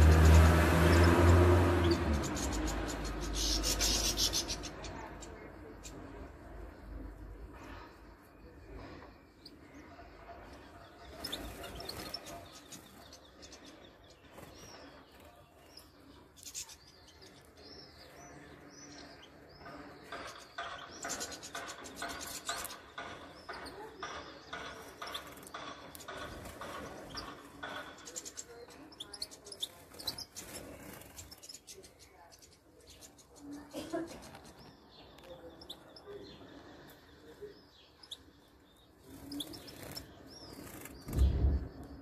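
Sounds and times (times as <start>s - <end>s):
goldfinches chirping and twittering: 0.0s - 42.0s.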